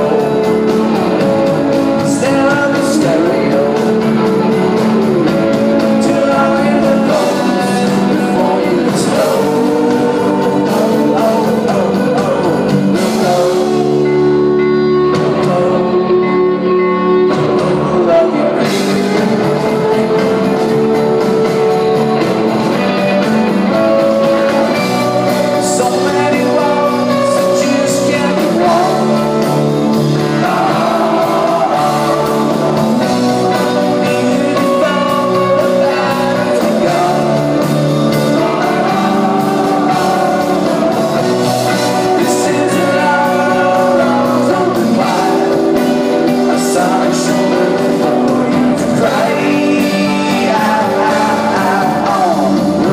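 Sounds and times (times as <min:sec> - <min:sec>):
live rock band playing: 0:00.0 - 0:52.9
person singing lead vocal: 0:00.0 - 0:52.9.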